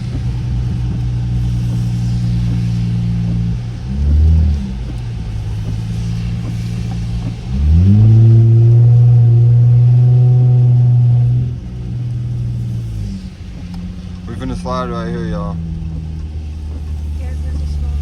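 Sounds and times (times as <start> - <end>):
car exhaust droning and revving: 0.0 - 18.0.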